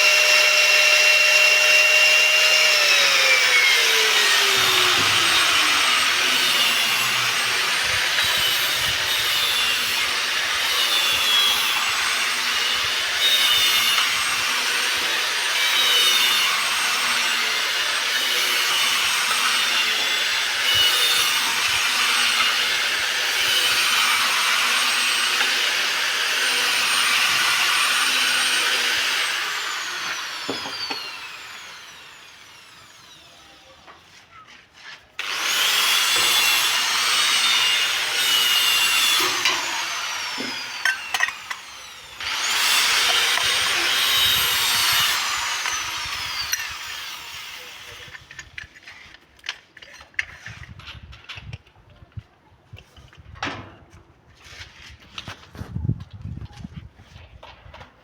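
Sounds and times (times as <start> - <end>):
power tool grinding stone: 0.0 - 33.8, 35.2 - 50.8.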